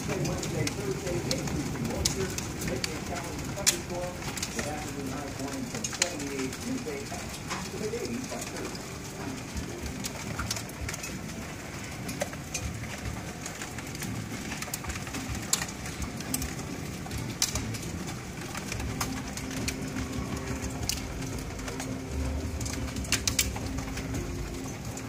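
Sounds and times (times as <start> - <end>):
hailstones ticking on boards: 0.0 - 25.0
heavy rain hissing: 0.0 - 25.0.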